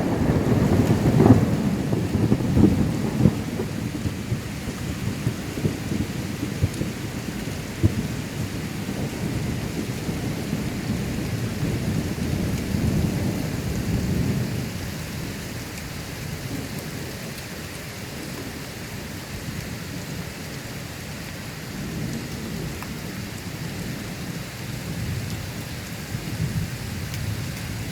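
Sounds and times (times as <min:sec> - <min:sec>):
thunder rumbling: 0:00.0 - 0:17.4, 0:21.7 - 0:27.9
rain falling: 0:00.0 - 0:27.9.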